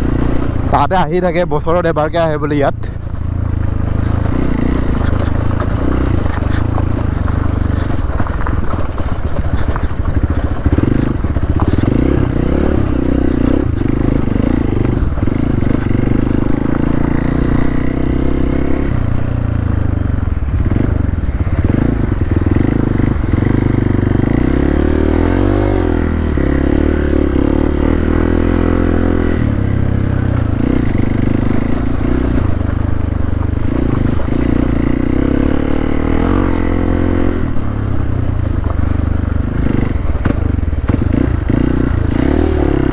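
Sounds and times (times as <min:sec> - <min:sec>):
motorcycle engine under load: 0:00.0 - 0:42.9.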